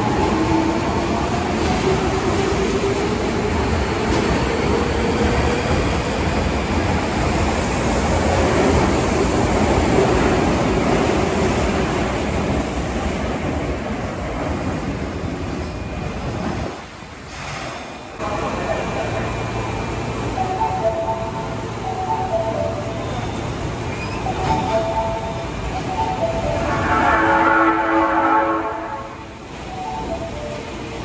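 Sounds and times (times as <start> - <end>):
subway train wheel and running noise: 0.0 - 31.0.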